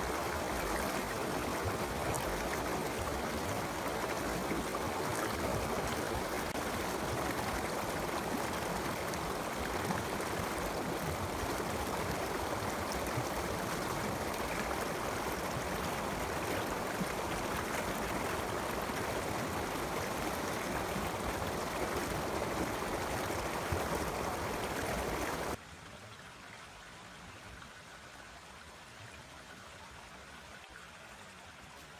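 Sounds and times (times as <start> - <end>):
stream running over rocks: 0.0 - 31.9.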